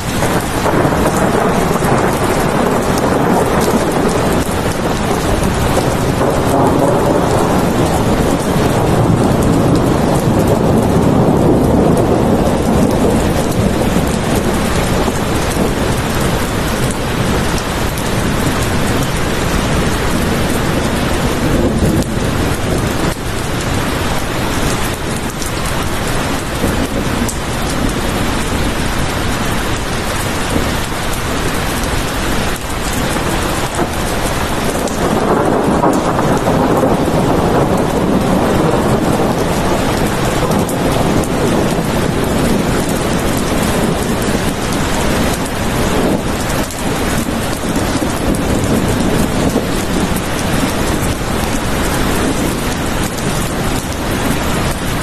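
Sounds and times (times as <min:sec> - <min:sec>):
heavy rainfall: 0:00.0 - 0:55.0.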